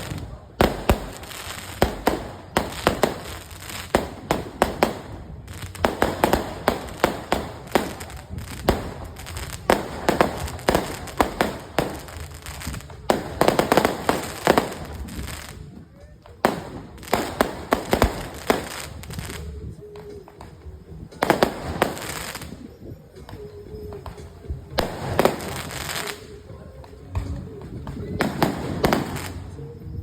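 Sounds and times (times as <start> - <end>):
fireworks bangs and cracks: 0.0 - 29.7.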